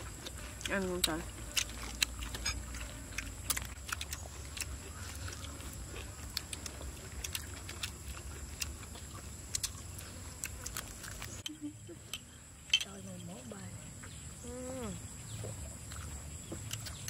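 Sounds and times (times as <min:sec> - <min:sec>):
chewing and mouth smacks: 0:00.0 - 0:12.3, 0:15.3 - 0:17.0.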